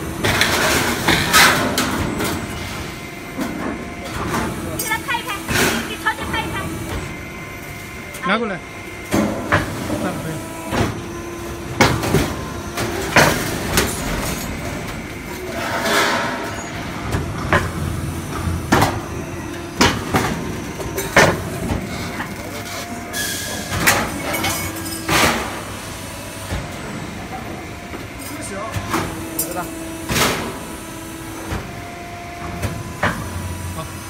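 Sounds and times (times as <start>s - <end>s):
machinery humming: 0.0s - 34.0s.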